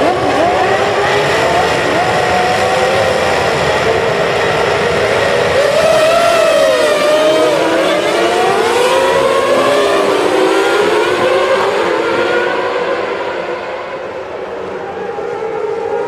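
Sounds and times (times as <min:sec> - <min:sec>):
racing engines revving: 0:00.0 - 0:16.0.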